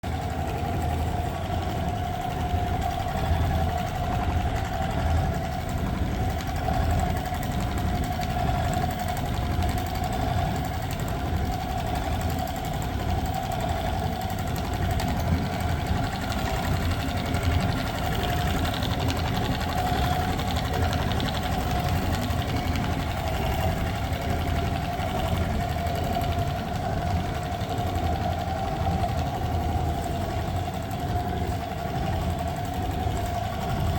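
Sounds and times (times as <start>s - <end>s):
sewing machine whine: 0.0s - 33.9s.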